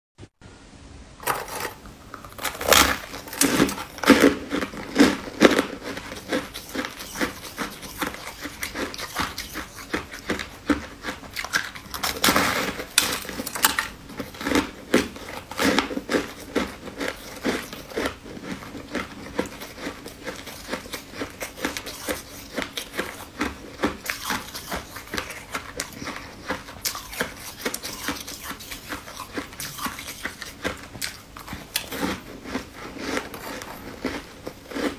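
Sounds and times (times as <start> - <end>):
crunchy biting and chewing: 1.2 - 34.9.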